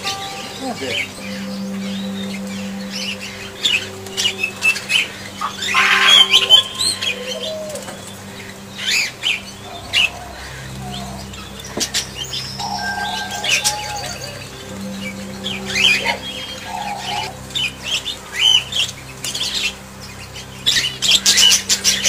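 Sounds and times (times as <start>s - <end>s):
budgerigars chirping: 0.0s - 22.0s.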